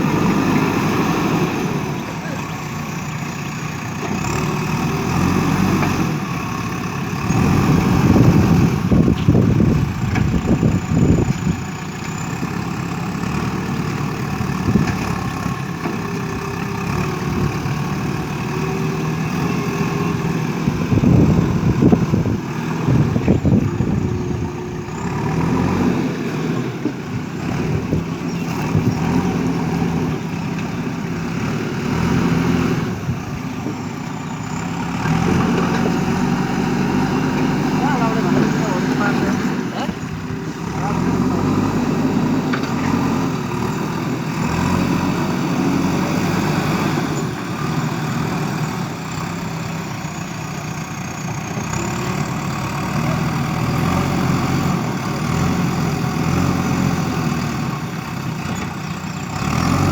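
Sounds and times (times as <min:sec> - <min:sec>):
backhoe diesel engine working: 0:00.0 - 0:59.9.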